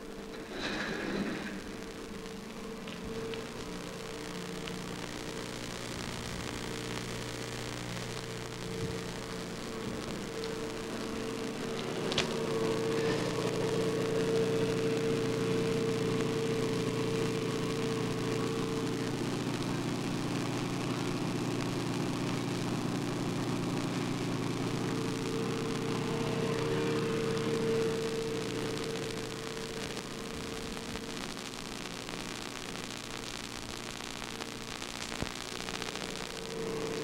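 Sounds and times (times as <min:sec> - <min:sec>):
motor humming: 0:00.0 - 0:33.0, 0:35.5 - 0:37.0
background hiss: 0:00.0 - 0:37.0.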